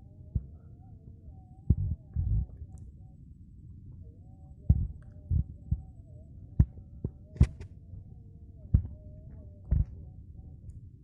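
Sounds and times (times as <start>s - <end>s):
faint wavering tones: 0.0s - 11.0s
steady low rumble: 0.0s - 11.0s.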